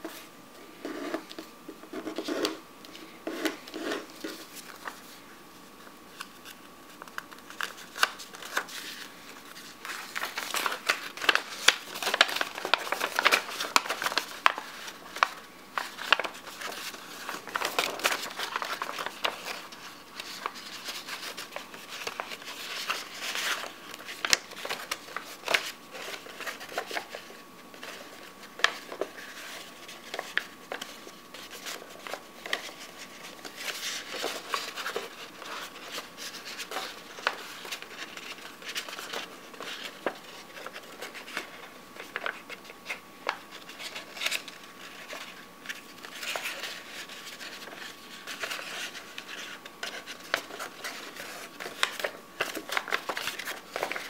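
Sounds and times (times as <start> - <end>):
paper being folded and creased: 6.1 - 54.0.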